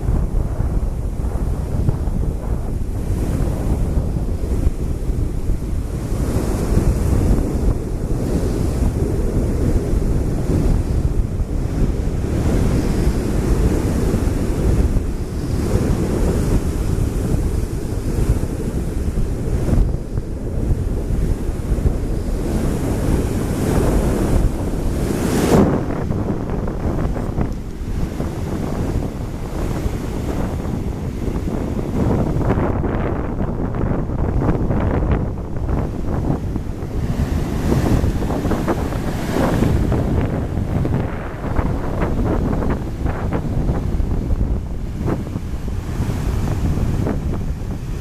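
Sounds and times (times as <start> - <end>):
waves breaking on a beach: 0.0 - 48.0
wind buffeting microphone: 0.0 - 48.0.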